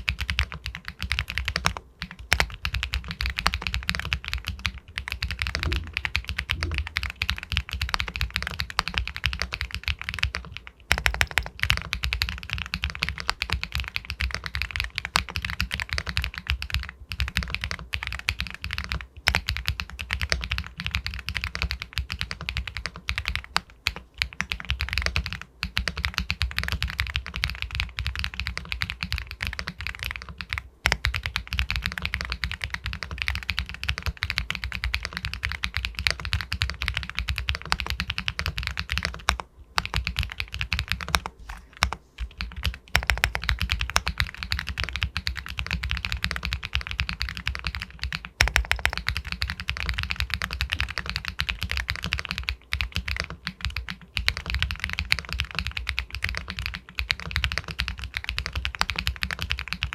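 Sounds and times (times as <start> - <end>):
fast typing on mechanical keyboard: 0.0 - 59.9.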